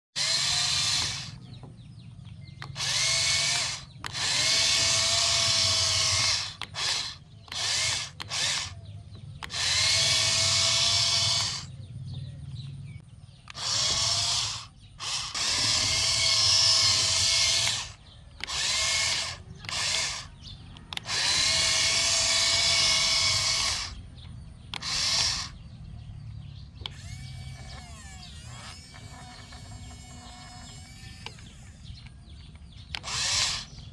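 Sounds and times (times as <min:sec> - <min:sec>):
small electric motors whirring: 0:00.2 - 0:33.9.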